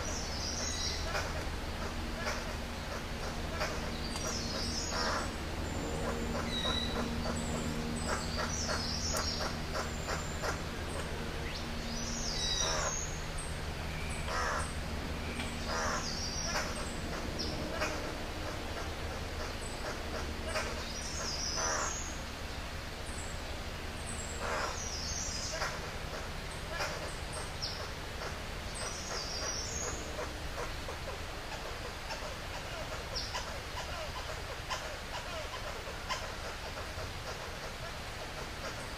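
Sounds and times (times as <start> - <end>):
harsh bird calls: 0.0 - 38.9
low steady hum: 0.0 - 38.9.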